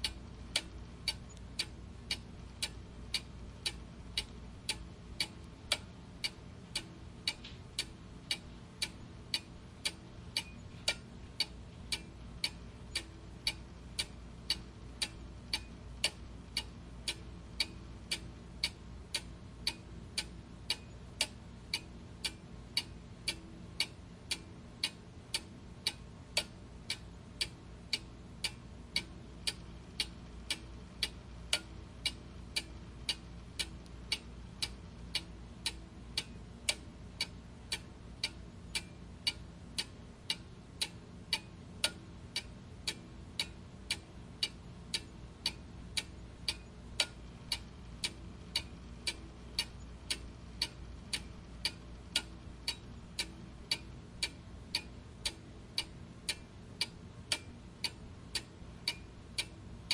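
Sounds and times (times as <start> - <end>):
clock ticking: 0.0 - 59.9
faint low hum: 0.0 - 59.9.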